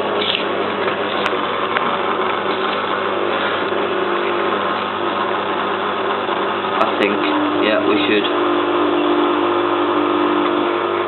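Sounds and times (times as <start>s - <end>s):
washing machine whirring: 0.0s - 11.0s.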